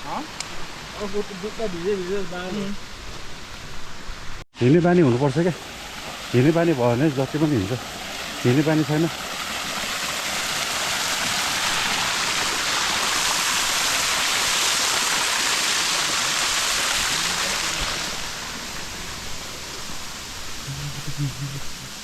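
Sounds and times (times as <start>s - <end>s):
mountain stream rushing water: 0.0s - 22.0s.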